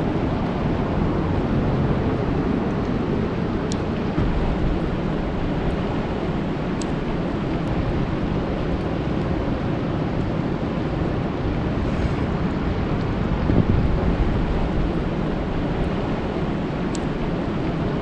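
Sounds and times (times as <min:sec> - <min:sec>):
rain falling on lake: 0:00.0 - 0:11.8, 0:12.9 - 0:18.0.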